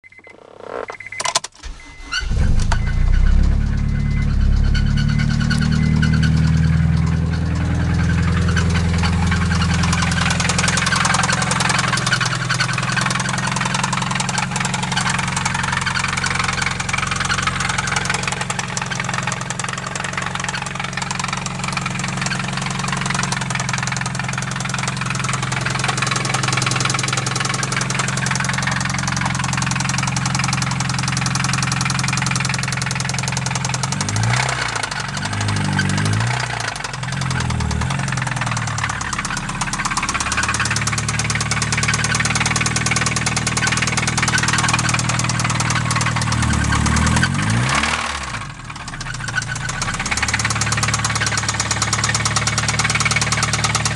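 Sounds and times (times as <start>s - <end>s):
car engine cranking and idling: 0.0s - 53.9s.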